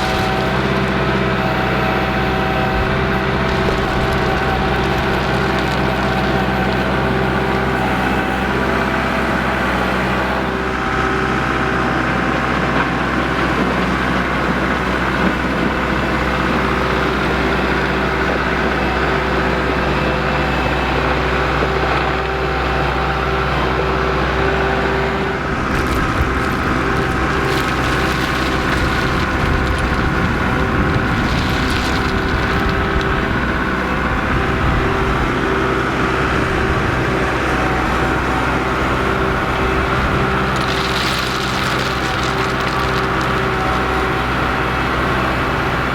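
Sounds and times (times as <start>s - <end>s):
engine humming: 0.0s - 45.9s.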